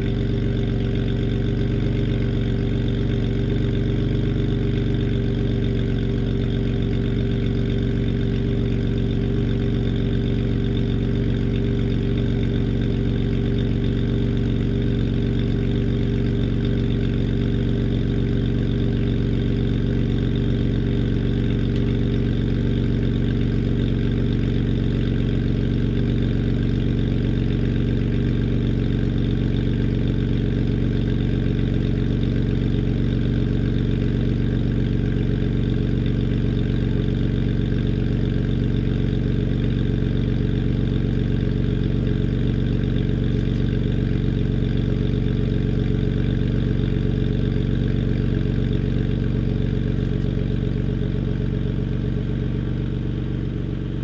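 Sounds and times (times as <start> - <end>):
car exhaust idling: 0.0 - 54.0.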